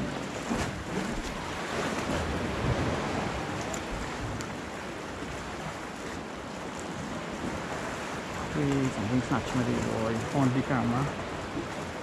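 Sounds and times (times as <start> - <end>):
water lapping against rocks: 0.0 - 12.0.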